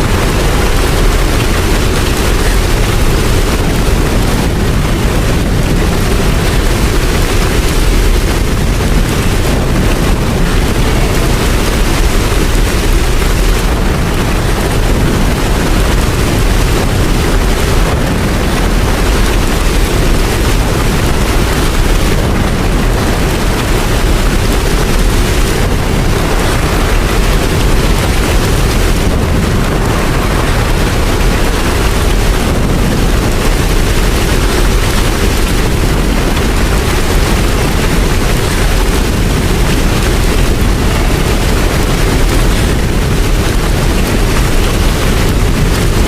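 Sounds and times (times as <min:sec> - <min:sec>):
deep low rumble: 0:00.0 - 0:46.0
heavy rain: 0:00.0 - 0:46.0.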